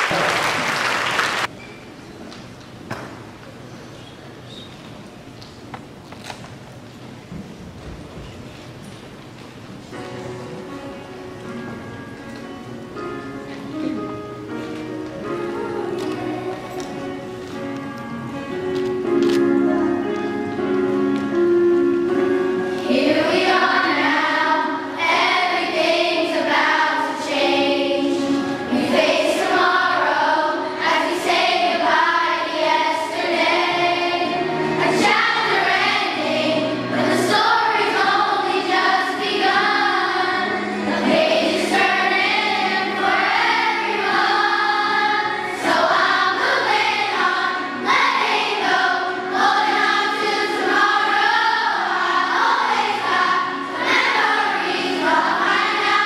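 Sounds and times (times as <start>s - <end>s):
children's choir singing: 10.0s - 56.0s.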